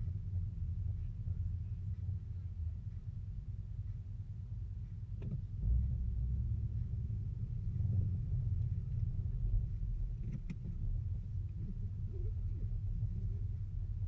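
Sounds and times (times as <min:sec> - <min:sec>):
car rumbling: 0:00.0 - 0:14.0.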